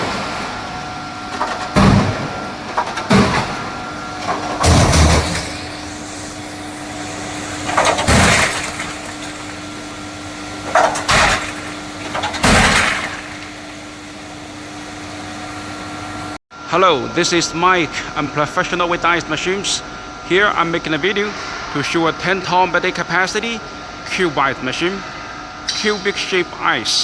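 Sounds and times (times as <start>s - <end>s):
ice machine humming: 0.0s - 21.9s.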